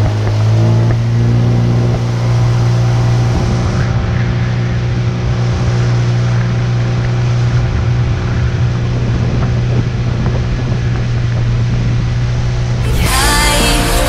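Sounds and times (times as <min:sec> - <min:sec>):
outboard motor running: 0:00.0 - 0:13.0
water rushing along hull: 0:00.0 - 0:13.6.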